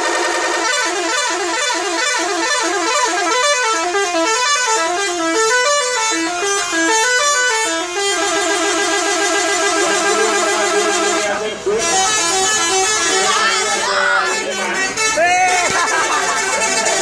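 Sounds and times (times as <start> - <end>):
musical bus air horn: 0.0 - 17.0.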